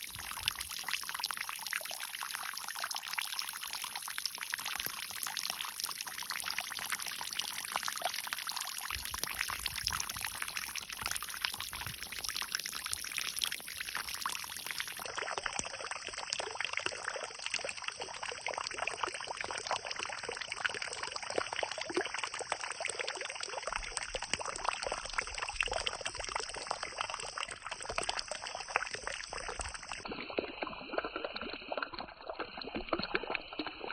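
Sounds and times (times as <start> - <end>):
water pouring and splashing: 0.0 - 33.9.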